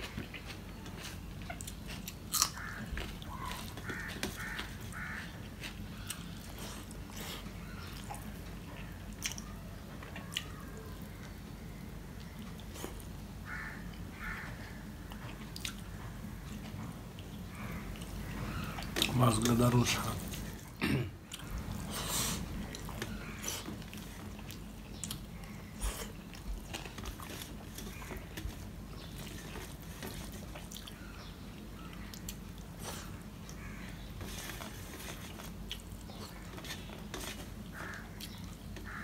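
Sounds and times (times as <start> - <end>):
chewing and wet mouth sounds: 0.0 - 11.4, 15.0 - 20.7, 21.3 - 33.6, 34.2 - 39.0.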